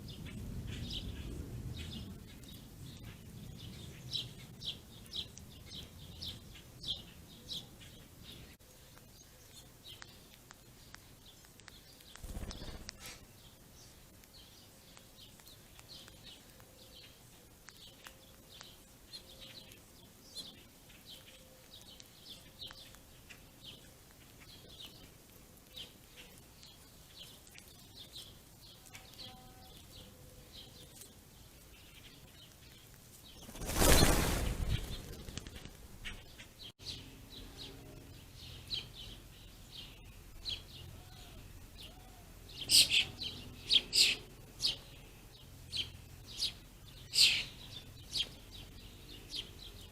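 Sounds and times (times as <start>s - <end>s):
songbirds chirping: 0.0s - 49.9s.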